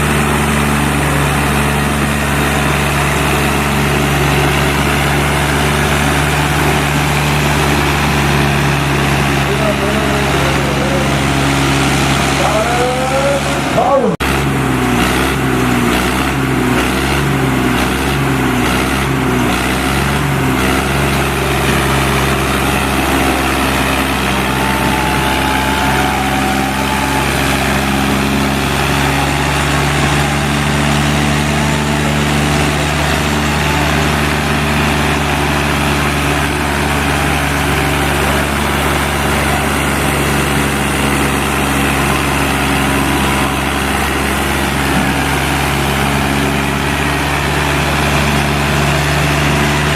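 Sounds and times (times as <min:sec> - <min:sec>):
diesel tractor engines under load: 0:00.0 - 0:49.9.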